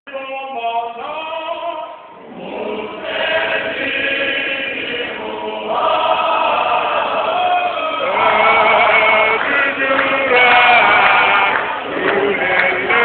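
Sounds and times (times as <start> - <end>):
choir singing gospel: 0.5 - 13.0.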